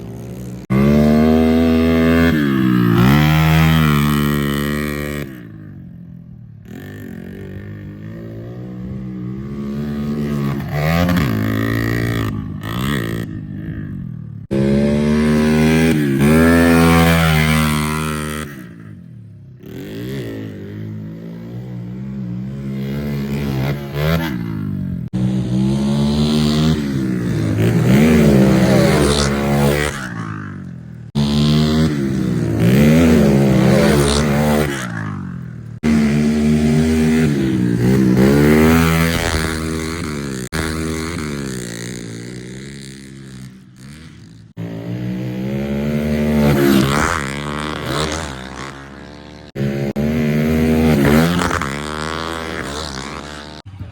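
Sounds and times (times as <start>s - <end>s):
pit bike engines revving: 0.0s - 53.9s.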